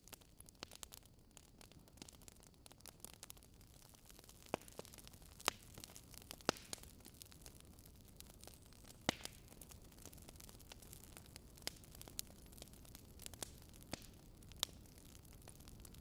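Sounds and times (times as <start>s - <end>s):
campfire crackling: 0.0s - 16.0s
faint steady hiss: 0.0s - 16.0s.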